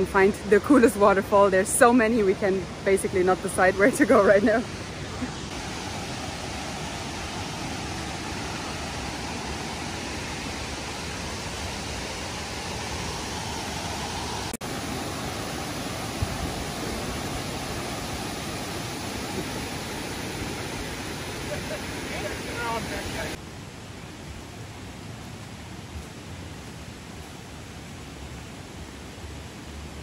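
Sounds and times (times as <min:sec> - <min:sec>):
river water rushing over cascades: 0:00.0 - 0:30.0.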